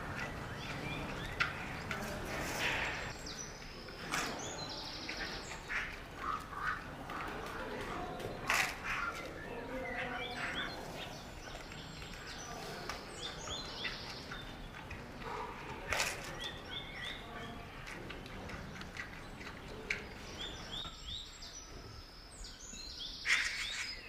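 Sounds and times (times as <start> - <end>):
outdoor hush: 0.0 - 24.0
small birds chirping: 0.0 - 24.0.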